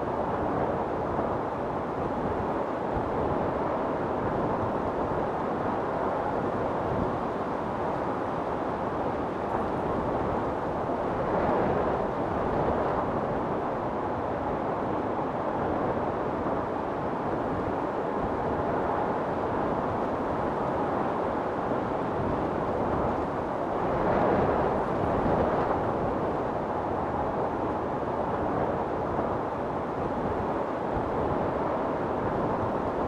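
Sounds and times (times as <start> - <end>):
storm wind blowing hard: 0.0 - 33.0.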